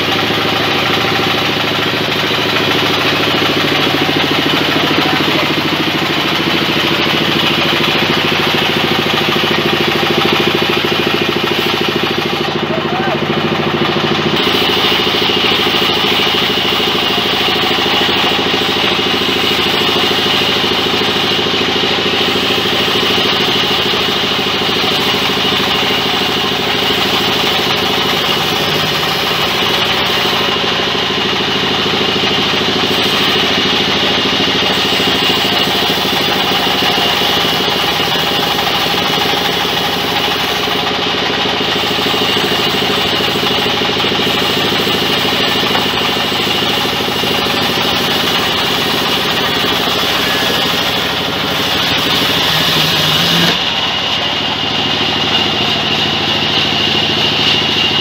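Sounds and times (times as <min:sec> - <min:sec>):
band saw drone: 0:00.0 - 0:58.0
saw blade whine cutting wood: 0:00.0 - 0:58.0.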